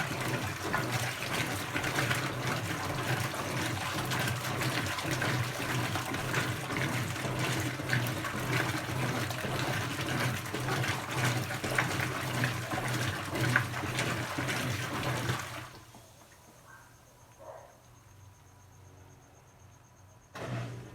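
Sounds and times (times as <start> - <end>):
washing machine water rushing: 0.0 - 17.1, 20.4 - 20.9
washing machine low hum: 0.0 - 20.9.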